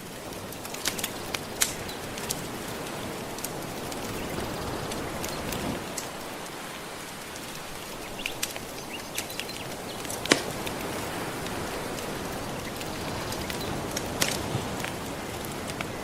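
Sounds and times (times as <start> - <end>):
gentle ocean waves: 0.0 - 16.0
wood fire crackling and popping: 0.0 - 16.0.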